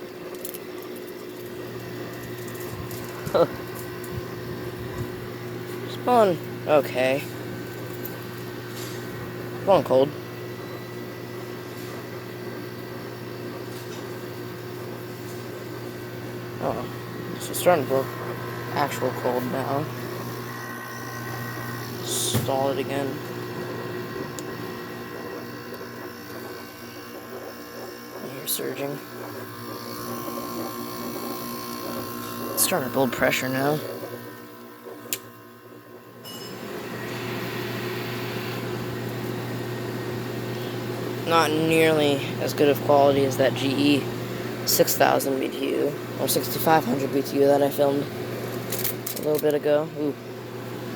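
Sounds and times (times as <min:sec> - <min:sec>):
air conditioner humming: 0:00.0 - 0:50.9.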